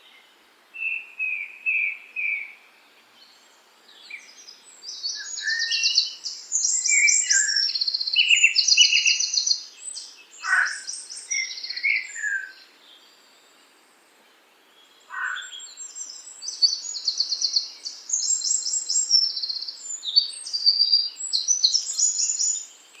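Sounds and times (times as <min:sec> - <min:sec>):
songbirds trilling and chirping: 0:00.0 - 0:23.0.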